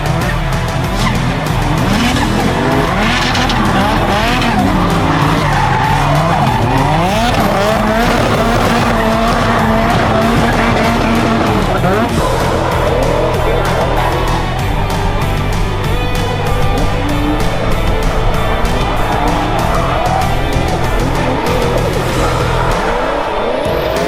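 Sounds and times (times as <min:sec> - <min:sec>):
car engine revving: 0:00.0 - 0:24.0
tyres skidding and squealing: 0:00.0 - 0:24.0.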